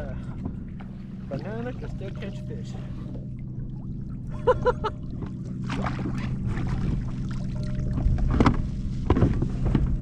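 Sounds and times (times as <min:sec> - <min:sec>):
steady low hum: 0:00.0 - 0:10.0
water lapping against kayak hull: 0:00.1 - 0:10.0.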